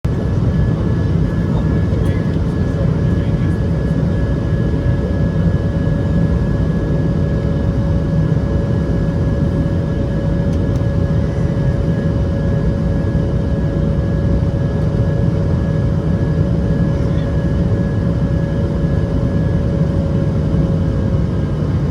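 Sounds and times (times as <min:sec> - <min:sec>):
jet cabin engine rumble: 0:00.1 - 0:21.9.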